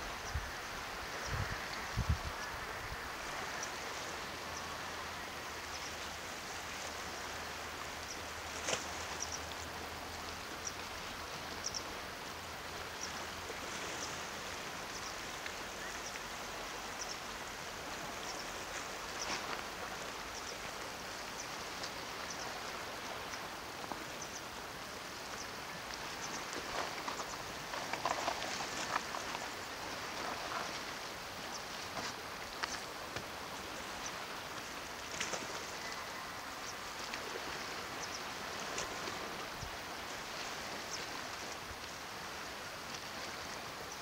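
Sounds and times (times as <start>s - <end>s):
waves lapping against rocks: 0.0s - 44.0s
water splashes and drips: 1.0s - 44.0s.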